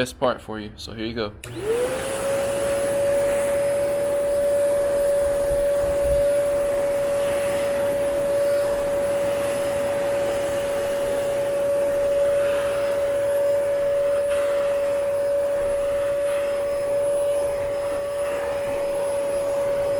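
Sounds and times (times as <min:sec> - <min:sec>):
vacuum cleaner whining: 0:01.4 - 0:19.9.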